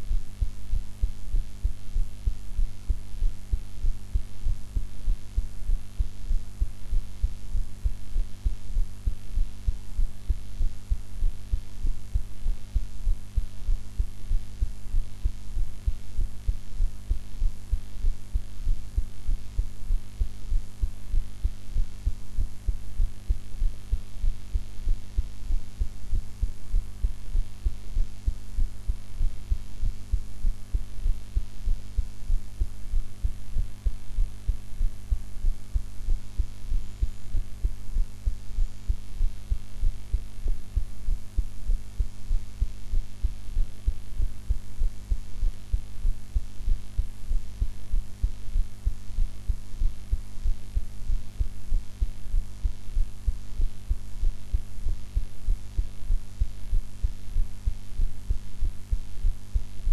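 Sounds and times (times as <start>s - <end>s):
heartbeat thuds: 0.0s - 59.9s.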